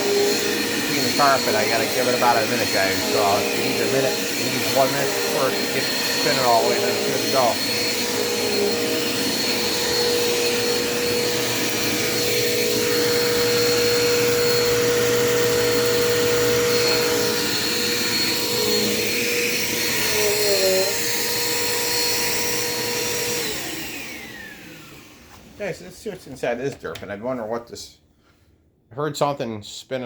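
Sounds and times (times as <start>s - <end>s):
vacuum cleaner motor whine: 0.0s - 25.6s.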